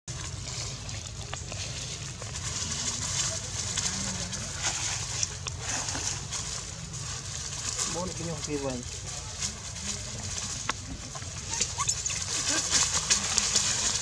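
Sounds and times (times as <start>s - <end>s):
dry leaves rustling and crackling: 0.1s - 14.0s.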